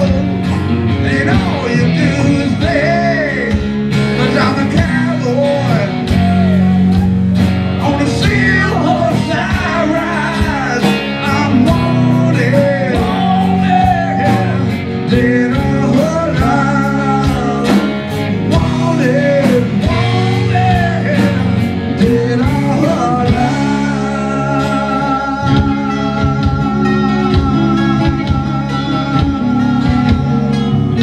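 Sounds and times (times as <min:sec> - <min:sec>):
lead guitar bending notes: 0:00.0 - 0:31.0
live rock band: 0:00.0 - 0:31.0.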